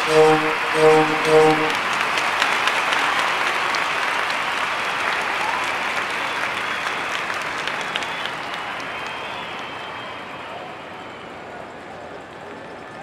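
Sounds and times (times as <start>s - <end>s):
crowd applause and cheering: 0.0s - 11.5s.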